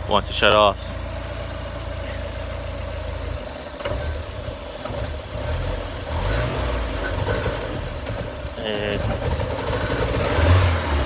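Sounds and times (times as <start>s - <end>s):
car engine idling roughly: 0.0s - 11.0s.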